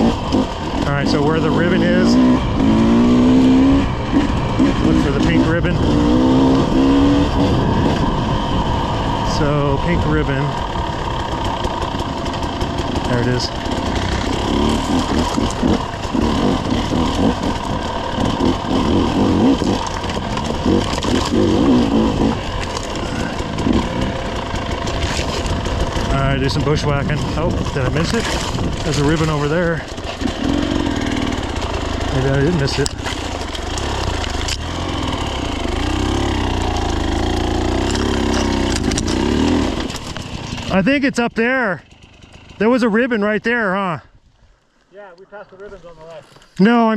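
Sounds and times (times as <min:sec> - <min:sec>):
dirt bike engine revving: 0:00.0 - 0:43.8.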